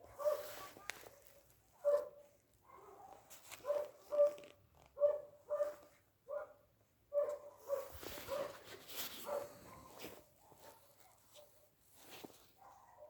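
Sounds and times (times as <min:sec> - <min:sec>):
dog barking: 0:00.0 - 0:08.6, 0:09.2 - 0:11.6, 0:12.6 - 0:13.0.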